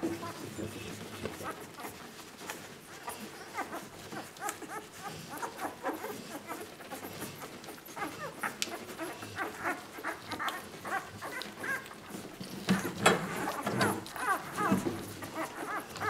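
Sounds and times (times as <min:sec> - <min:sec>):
puppies squeaking and whimpering: 0:00.0 - 0:16.0.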